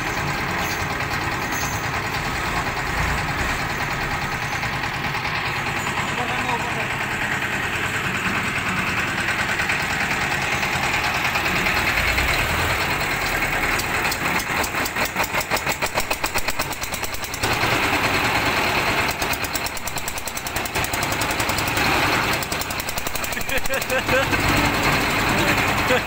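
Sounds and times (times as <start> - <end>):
diesel engine knocking: 0.0 - 26.0.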